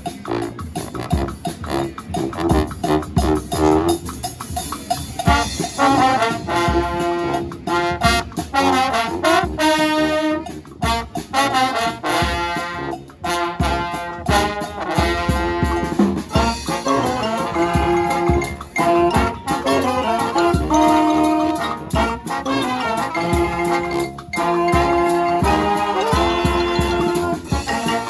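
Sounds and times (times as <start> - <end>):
horns playing melody: 0.0 - 28.0
steady drum beat: 0.0 - 28.0.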